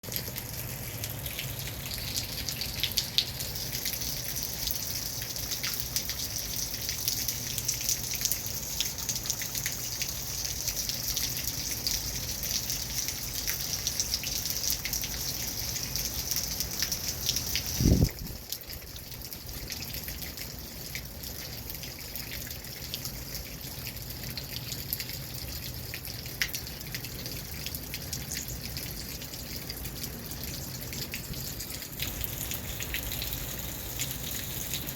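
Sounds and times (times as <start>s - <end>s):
rain falling and dripping: 0.0s - 34.9s.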